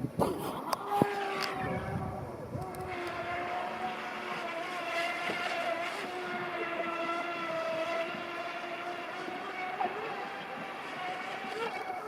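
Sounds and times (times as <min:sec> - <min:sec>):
boat motor high-pitched whine: 0:00.0 - 0:12.0.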